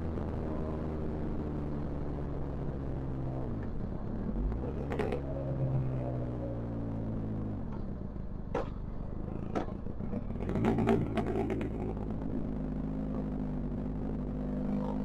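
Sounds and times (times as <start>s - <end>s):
motorcycle exhaust crackling and popping: 0.0s - 15.0s.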